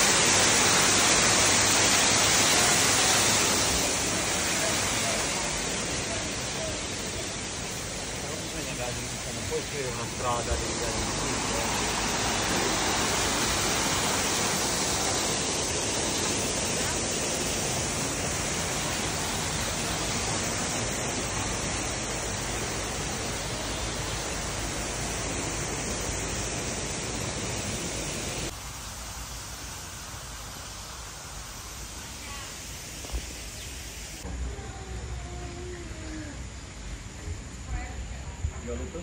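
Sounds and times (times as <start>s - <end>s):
waterfall hissing: 0.0s - 37.6s.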